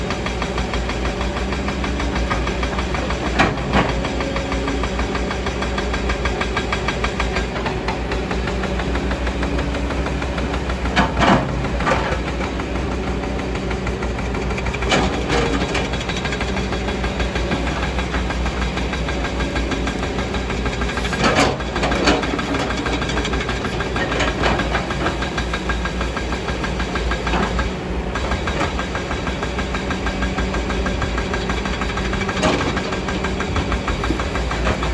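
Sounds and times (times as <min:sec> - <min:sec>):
excavator diesel engine running: 0:00.0 - 0:34.9
excavator bucket knocks and clanks: 0:00.2 - 0:34.9.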